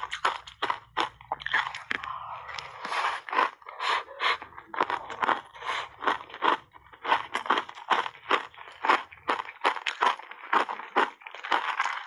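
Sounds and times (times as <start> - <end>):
ice cubes crunching: 0.0 - 3.8, 4.5 - 12.0.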